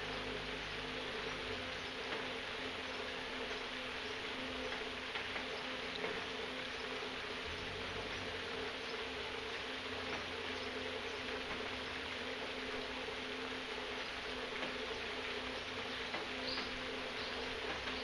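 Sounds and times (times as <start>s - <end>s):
faint water drips: 0.0s - 18.0s
low steady hum: 0.0s - 18.0s
steady rain falling: 0.0s - 18.0s.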